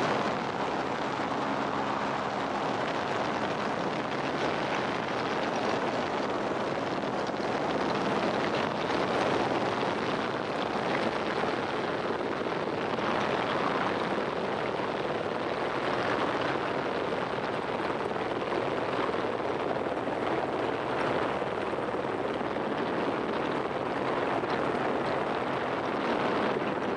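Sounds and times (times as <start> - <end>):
wind on microphone: 0.0 - 26.9.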